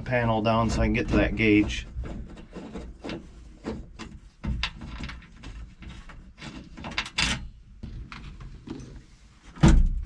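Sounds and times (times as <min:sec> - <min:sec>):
knocks clicks and scraping of panel: 0:00.5 - 0:09.0.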